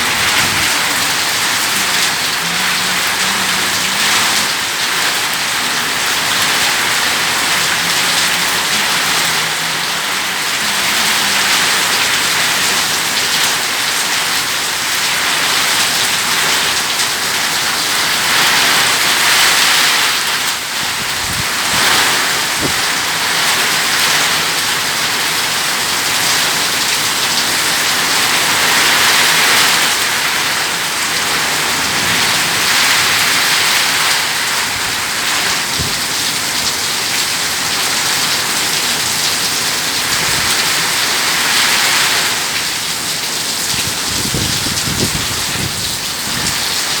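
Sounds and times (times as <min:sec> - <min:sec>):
heavy rain pouring: 0:00.0 - 0:47.0.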